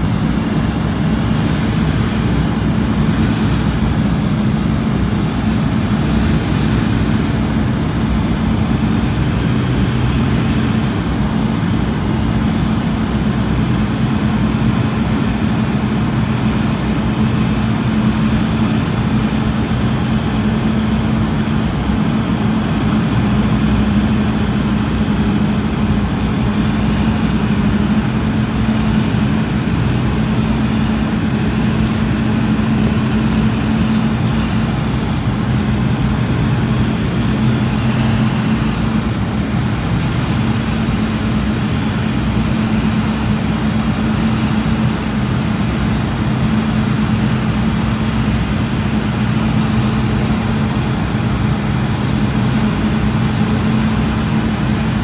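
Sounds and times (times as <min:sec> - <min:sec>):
faint high whine: 0:00.0 - 0:55.0
turboprop propeller drone: 0:00.0 - 0:55.0.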